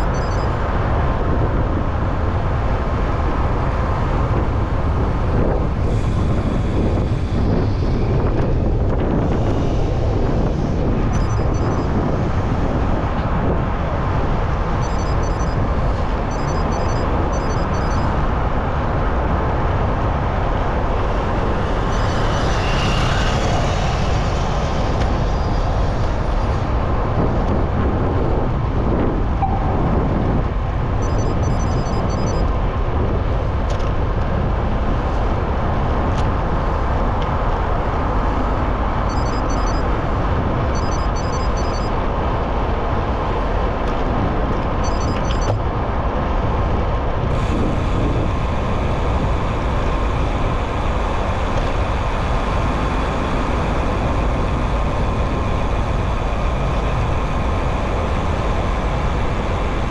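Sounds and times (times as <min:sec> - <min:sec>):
city road traffic: 0:00.0 - 0:59.9
wind rushing over microphone: 0:00.0 - 0:59.9.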